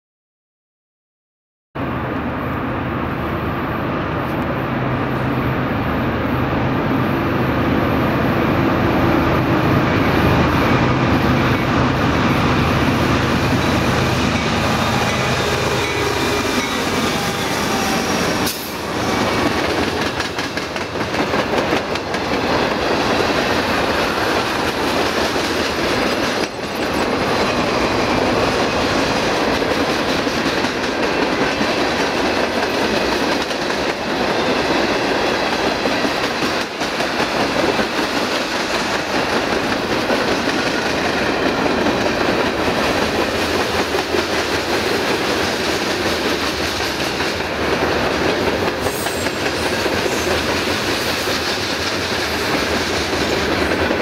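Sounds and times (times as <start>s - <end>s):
diesel locomotive engine drone: 1.8s - 54.0s.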